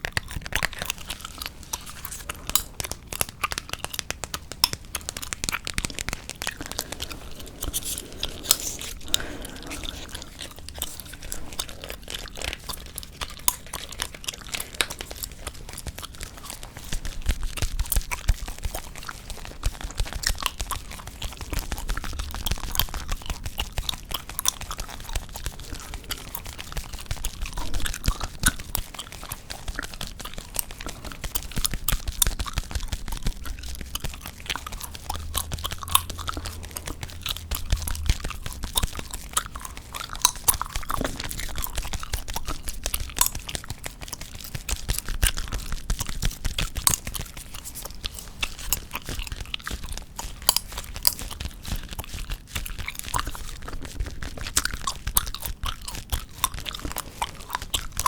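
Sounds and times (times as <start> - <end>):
gum chewing mouth clicks: 0.0 - 58.0.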